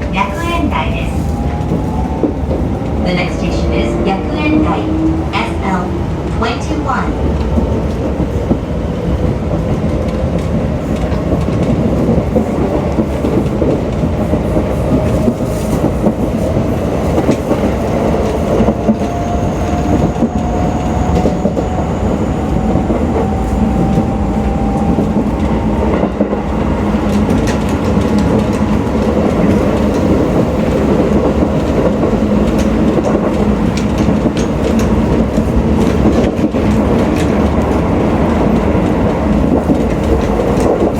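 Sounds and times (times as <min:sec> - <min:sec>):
wheels rumbling on rail: 0:00.0 - 0:40.9.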